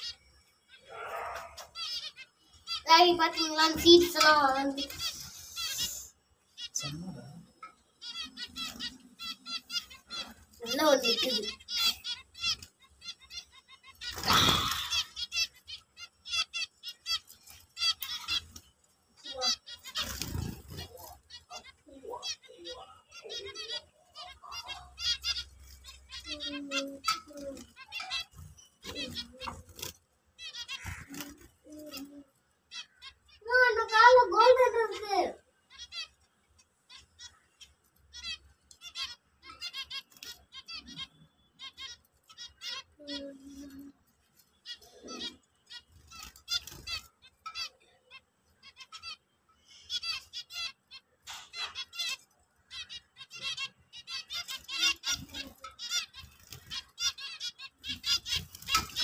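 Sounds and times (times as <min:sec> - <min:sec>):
finches calling: 0:00.0 - 0:59.0.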